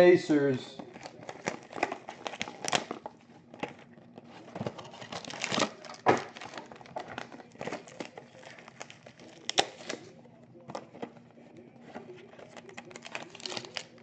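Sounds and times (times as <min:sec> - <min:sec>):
plastic wrapping crinkling: 0:00.8 - 0:14.0.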